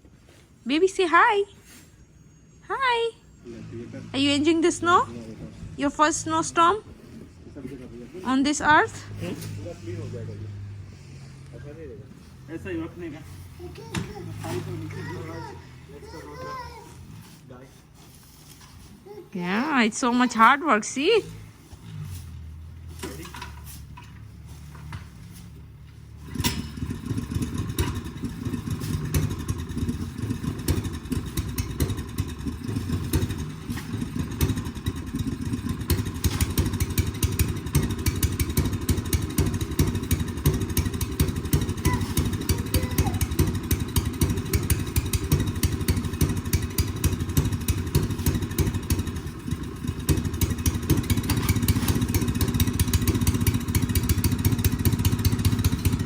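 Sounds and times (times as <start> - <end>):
snowblower engine running: 3.4 - 56.0.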